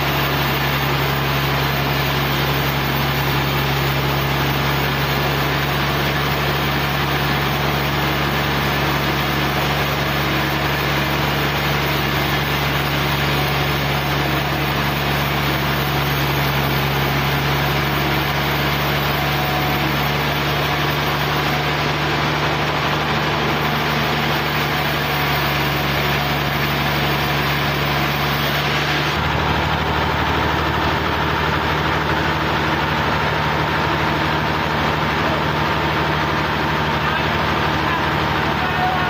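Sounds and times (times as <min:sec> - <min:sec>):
sawmill engine running: 0:00.0 - 0:39.0.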